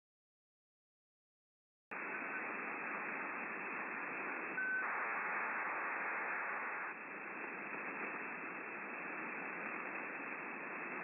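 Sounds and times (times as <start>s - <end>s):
radio static hiss: 1.9s - 11.0s.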